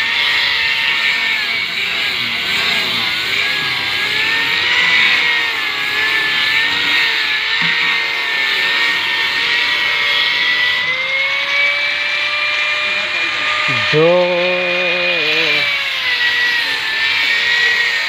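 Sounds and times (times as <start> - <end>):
electric grinder whining: 0.0 - 18.0.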